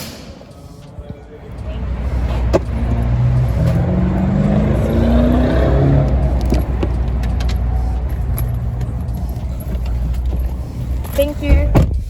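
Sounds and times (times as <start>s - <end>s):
low road rumble: 0.0s - 12.0s
car engine accelerating: 1.4s - 11.2s.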